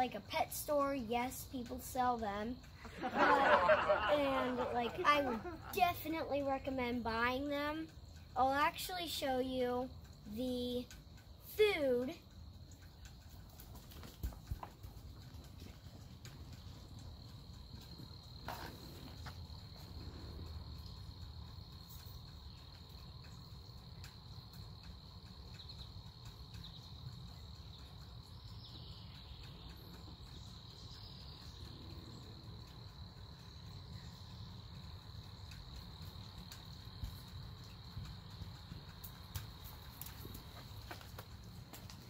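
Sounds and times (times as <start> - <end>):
insects trilling: 0.0 - 42.0
low outdoor rumble: 0.0 - 42.0.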